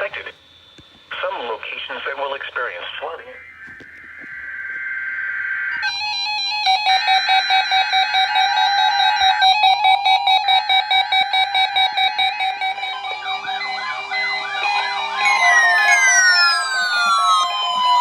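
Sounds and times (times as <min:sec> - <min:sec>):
electronic alarm beeping: 0:00.0 - 0:18.0.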